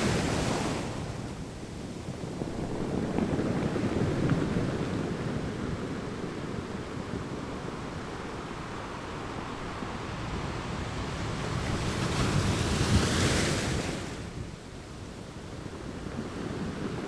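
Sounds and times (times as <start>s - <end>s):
ocean surf washing on shore: 0.0s - 17.0s.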